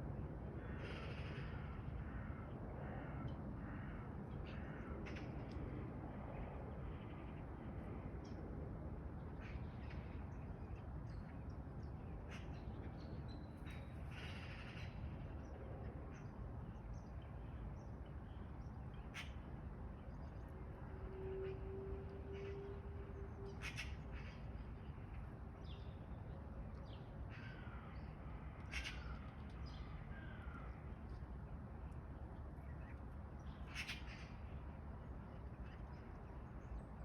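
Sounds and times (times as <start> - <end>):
low background noise: 0.0 - 37.0.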